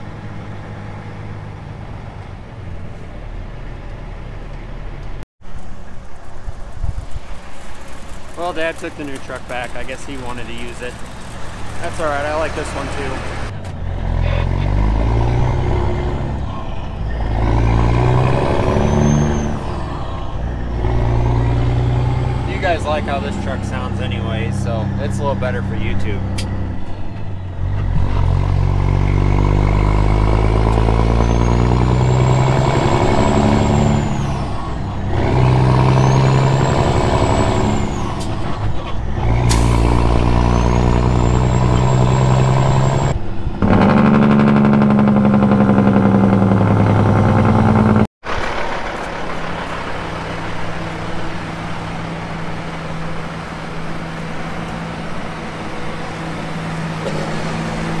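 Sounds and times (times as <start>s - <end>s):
quieter engine running: 0.0s - 58.0s
diesel truck engine shifting gears: 6.3s - 58.0s.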